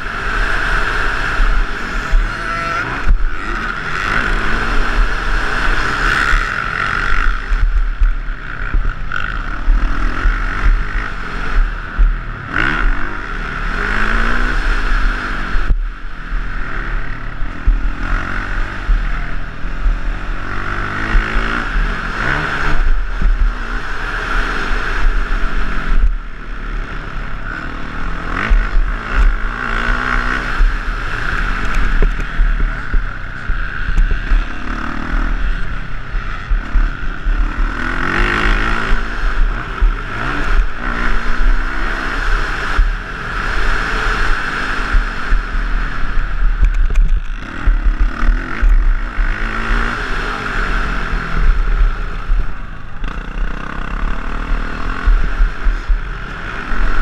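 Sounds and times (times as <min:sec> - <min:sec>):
dirt bike engine racing: 0:00.0 - 0:57.0.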